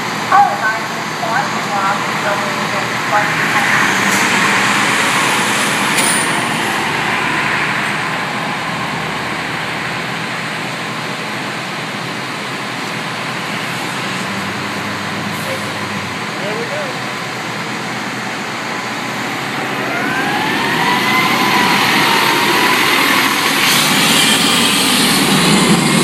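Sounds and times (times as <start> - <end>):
heavy vehicle engine and tyres: 0.0 - 26.0
steady traffic rumble: 0.0 - 26.0.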